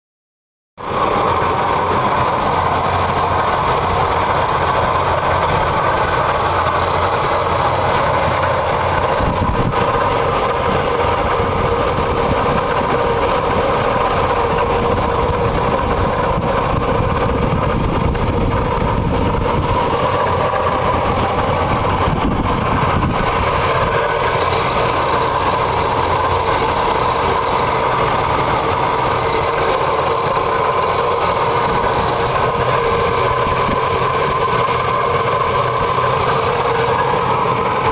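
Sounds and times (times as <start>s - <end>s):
strange engine noise: 0.8s - 37.9s.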